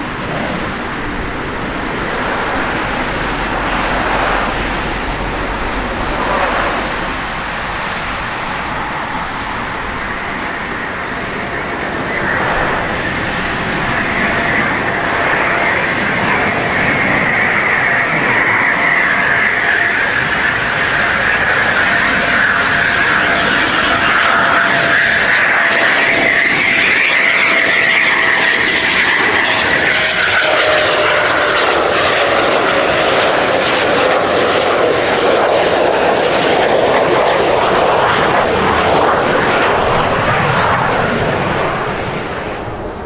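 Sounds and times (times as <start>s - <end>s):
high engine whine: 0.0s - 43.0s
jet engine roar: 0.0s - 43.0s.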